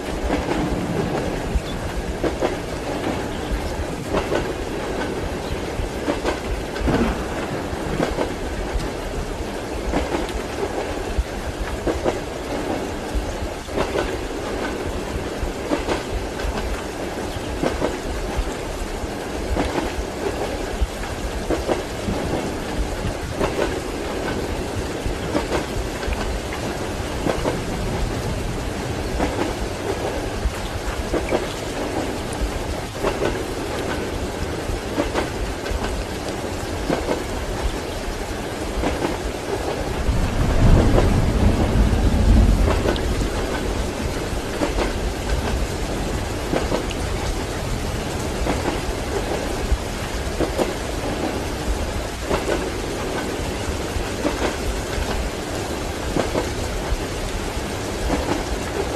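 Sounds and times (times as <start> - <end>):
rumbling thunder: 0.0 - 18.5, 19.5 - 35.9, 38.8 - 57.1
steady rain: 0.0 - 58.9
train wheels clacking on rails: 0.0 - 58.9.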